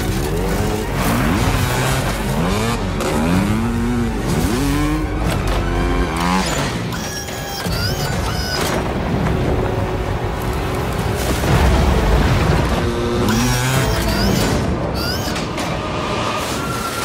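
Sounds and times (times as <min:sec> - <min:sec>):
motorcycle engines revving: 0:00.0 - 0:11.0, 0:12.5 - 0:16.4
driving action music score: 0:00.0 - 0:17.0.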